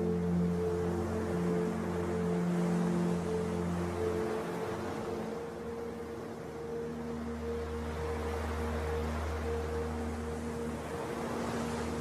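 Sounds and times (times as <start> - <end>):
ambient drone music: 0.0 - 12.0
ocean waves: 0.0 - 12.0.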